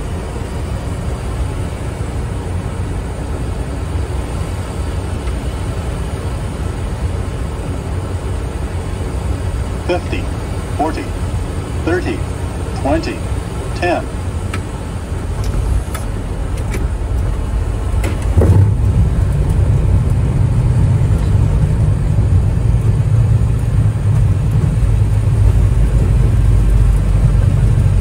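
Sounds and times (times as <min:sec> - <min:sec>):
airplane landing rumble: 0:00.0 - 0:28.0.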